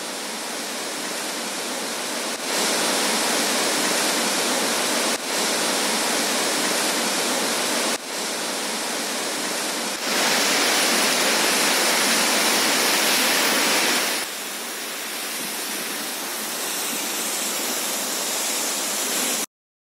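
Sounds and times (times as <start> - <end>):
water rushing from spillway: 0.0 - 19.5.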